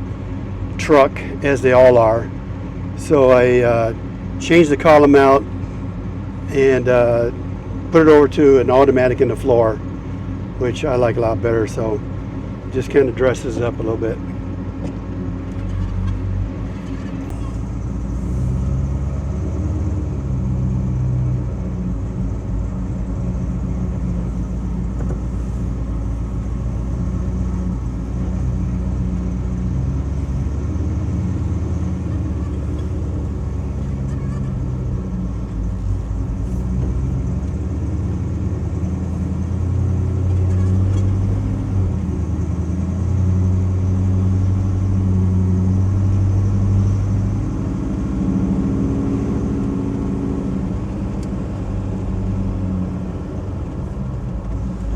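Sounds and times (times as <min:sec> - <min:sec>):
pickup engine droning: 0:00.0 - 0:54.9.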